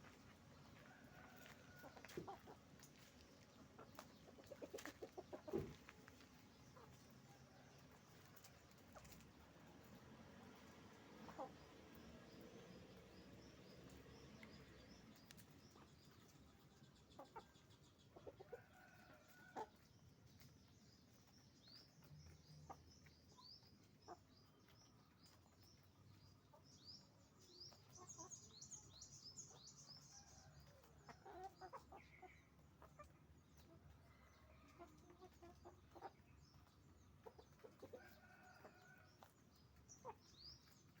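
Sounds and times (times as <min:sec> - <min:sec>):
chickens clucking faintly: 0:00.0 - 0:41.0.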